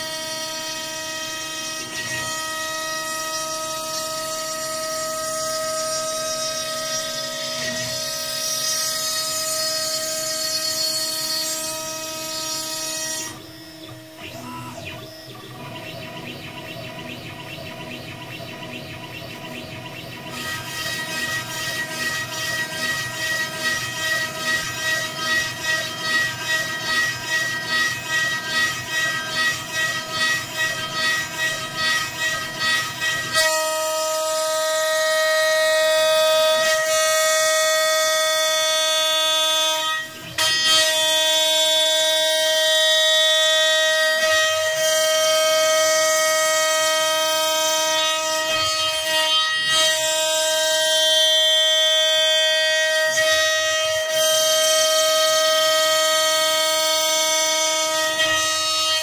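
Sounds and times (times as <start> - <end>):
cnc router milling wood: 0.0 - 59.0.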